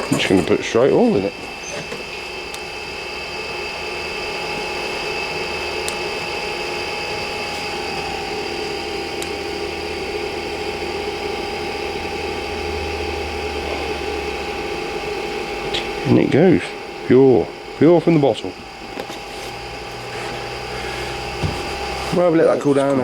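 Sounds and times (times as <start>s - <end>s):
heater fans whining: 0.0s - 23.0s.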